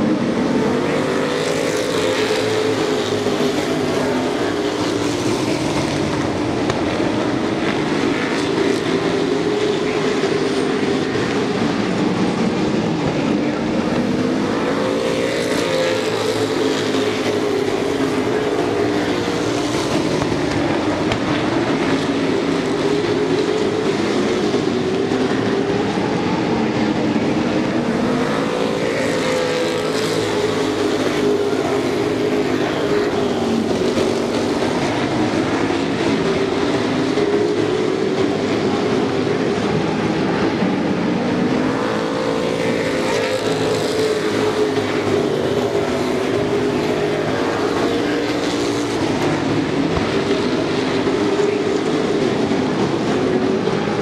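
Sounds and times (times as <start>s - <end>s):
race truck engines racing: 0.0s - 54.0s.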